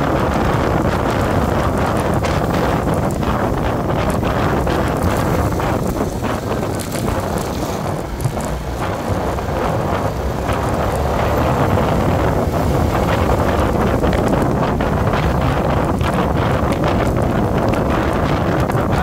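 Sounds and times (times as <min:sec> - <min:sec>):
road noise: 0:00.0 - 0:19.0
vehicle engine: 0:00.0 - 0:19.0
wind buffeting microphone: 0:00.0 - 0:19.0.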